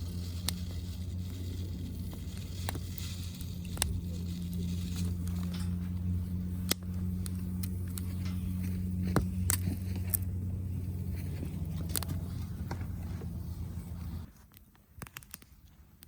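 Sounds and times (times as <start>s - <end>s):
campfire crackling and popping: 0.0s - 12.9s
low hum: 0.0s - 14.3s.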